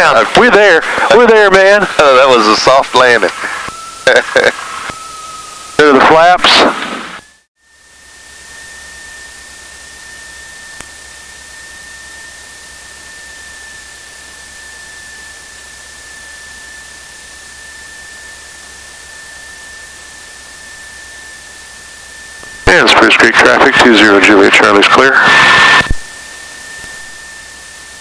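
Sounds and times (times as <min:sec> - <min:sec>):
high steady tone: 0:00.0 - 0:28.0.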